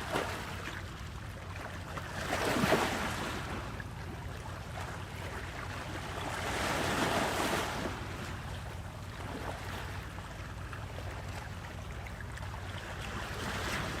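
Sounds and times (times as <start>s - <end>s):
sea water rushing: 0.0s - 14.0s.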